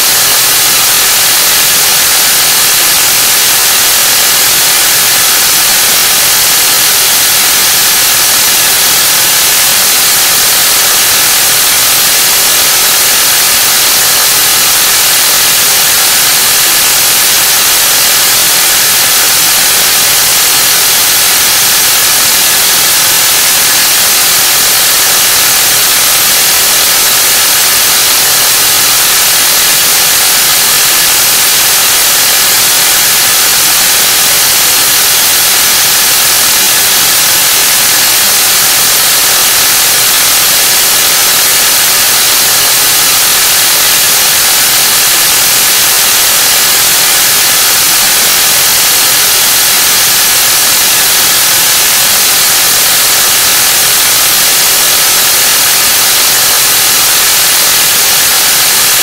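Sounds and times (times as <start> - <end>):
tv static hiss: 0.0 - 59.0.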